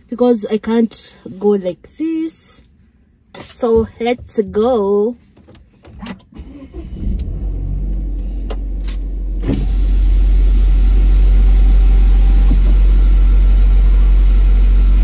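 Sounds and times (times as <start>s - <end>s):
car engine rumble from inside: 2.6s - 15.0s.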